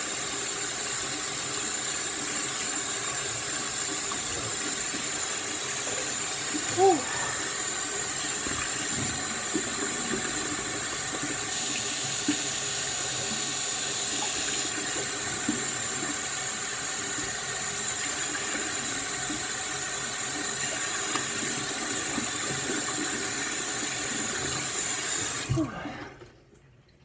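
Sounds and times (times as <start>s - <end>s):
tap water running into sink: 0.0s - 25.8s.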